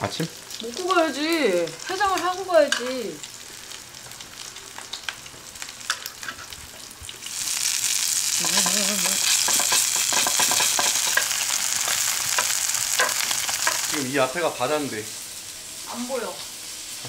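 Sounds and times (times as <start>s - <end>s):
steak sizzling on grill: 0.0s - 17.0s.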